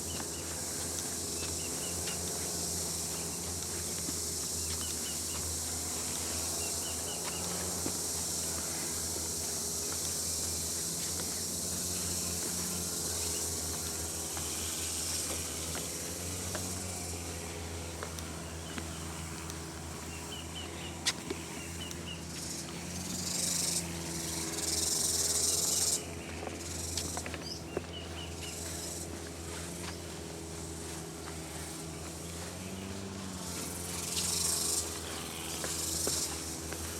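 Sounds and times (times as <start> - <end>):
insects buzzing drone: 0.0 - 36.9.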